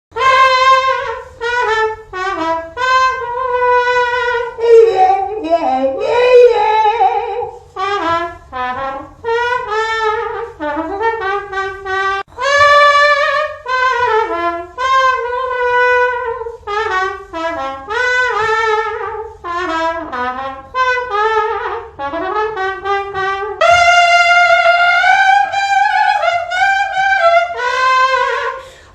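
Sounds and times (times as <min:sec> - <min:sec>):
woman imitating a trumpet: 0:00.2 - 0:28.8.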